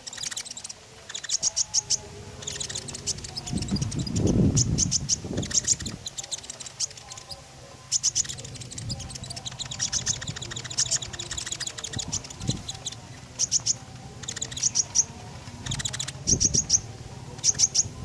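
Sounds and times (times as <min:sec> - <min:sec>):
songbird high chirps: 0:00.0 - 0:18.0.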